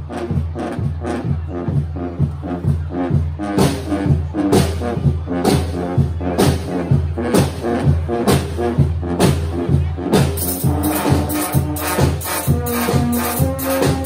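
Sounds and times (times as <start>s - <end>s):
carnival brass band playing: 0.0s - 14.0s.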